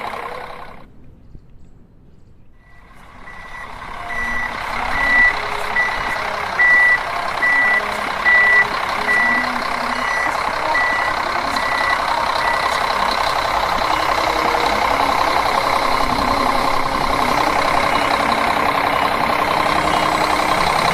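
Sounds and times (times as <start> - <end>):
engine running: 0.0 - 0.9, 2.7 - 20.9
reversing beeper: 2.6 - 20.9.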